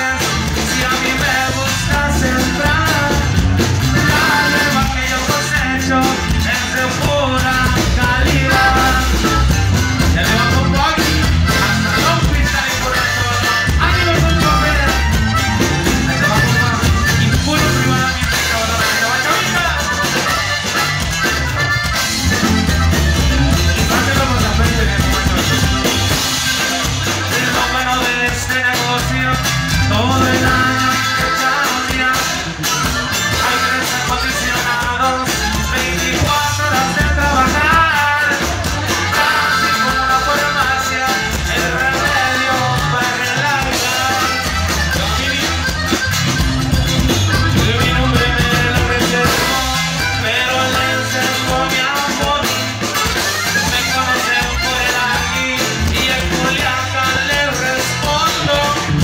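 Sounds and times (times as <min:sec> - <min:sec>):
button accordion: 0:00.0 - 0:59.0
drums: 0:00.0 - 0:59.0
electric bass: 0:00.0 - 0:59.0
guitar: 0:00.0 - 0:59.0.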